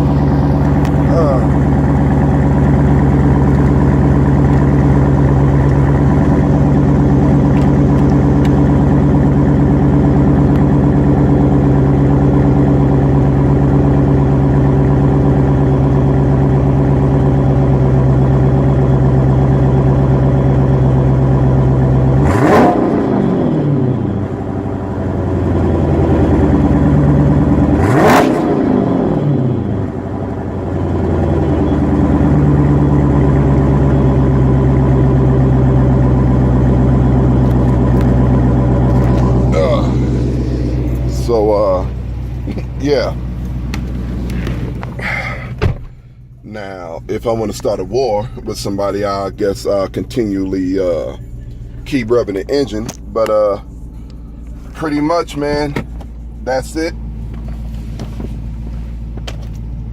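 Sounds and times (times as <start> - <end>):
car exhaust idling and revving: 0.0 - 59.9.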